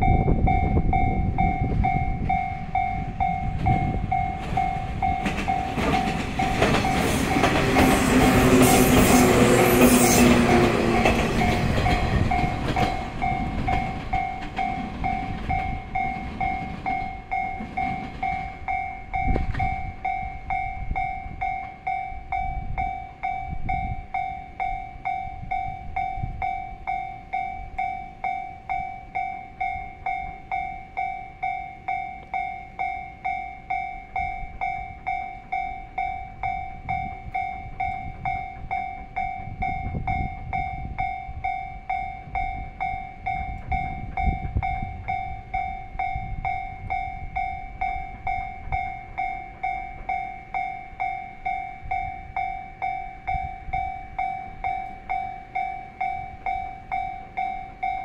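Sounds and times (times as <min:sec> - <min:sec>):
level-crossing alarm ringing: 0:00.0 - 0:58.0
train passing on rails: 0:00.0 - 0:58.0.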